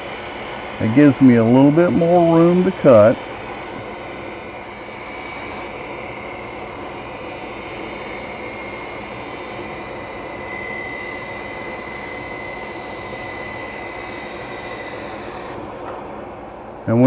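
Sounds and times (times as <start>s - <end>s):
turning tool high whine: 0.0s - 17.0s
wood lathe whirring: 0.0s - 17.0s.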